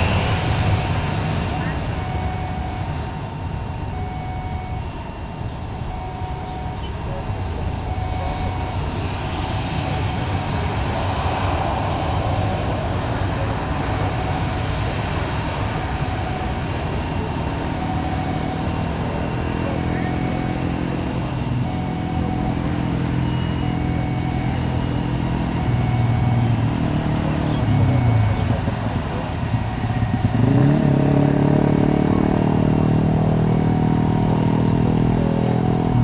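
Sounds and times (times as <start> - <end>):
low engine hum: 0.0 - 36.0
passing vehicle engines: 0.0 - 36.0.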